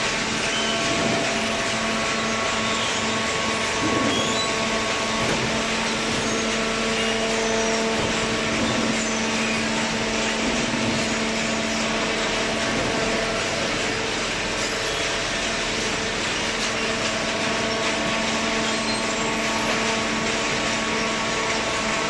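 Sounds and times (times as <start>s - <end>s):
hydraulic baler machine hum: 0.0s - 22.0s.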